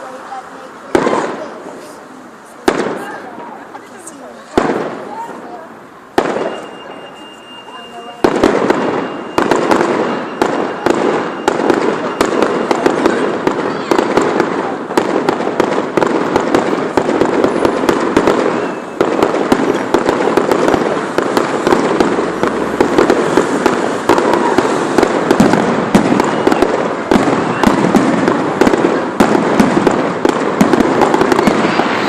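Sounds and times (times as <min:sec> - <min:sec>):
fireworks banging: 0:00.0 - 0:32.0.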